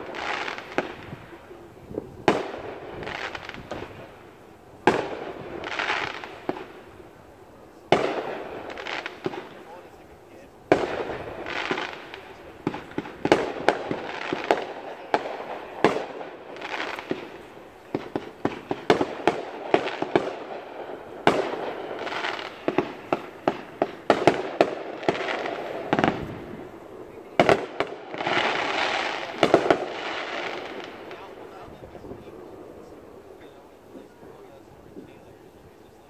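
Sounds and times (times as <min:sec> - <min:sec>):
fireworks bangs: 0:00.0 - 0:36.0
fireworks hissing and crackling: 0:00.0 - 0:36.0.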